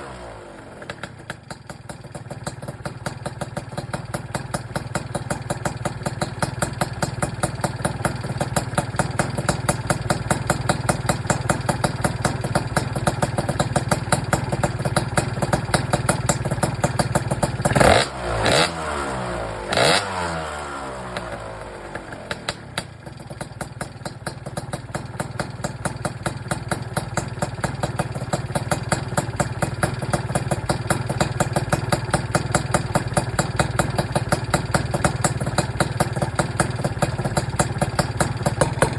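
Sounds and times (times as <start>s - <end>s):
scooter engine idling: 0.0s - 38.9s
scooter engine revving: 0.0s - 38.9s.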